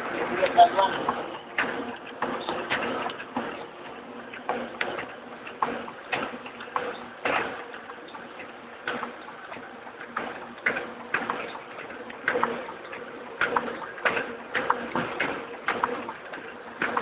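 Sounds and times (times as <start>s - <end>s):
printing press hum: 0.0s - 17.0s
sharp mechanical clacks: 0.3s - 17.0s.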